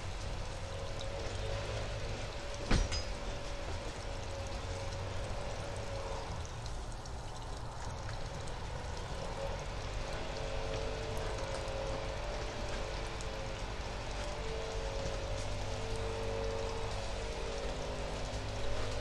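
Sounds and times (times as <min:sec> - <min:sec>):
faint lawn equipment engine hum: 0:00.0 - 0:19.0.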